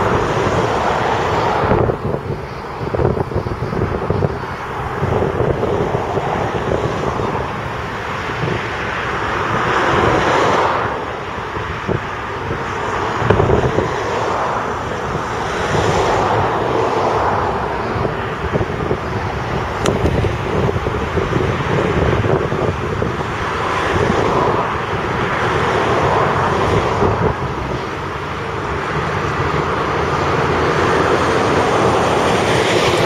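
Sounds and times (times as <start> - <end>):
diesel machinery engines rumbling: 0.0 - 33.0
wind noise on microphone: 0.0 - 33.0.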